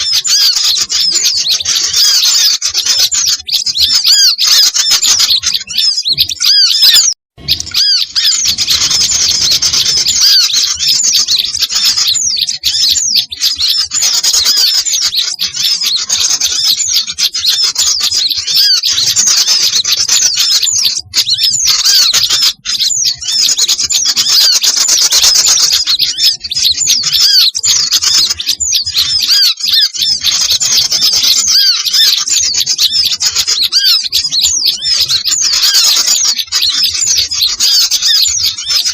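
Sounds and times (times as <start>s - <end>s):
songbirds chirping chorus: 0.0s - 38.9s.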